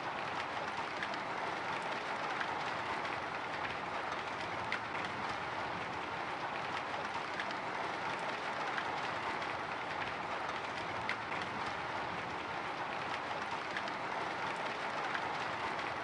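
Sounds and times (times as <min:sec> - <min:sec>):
raindrops ticking on window: 0:00.2 - 0:16.0.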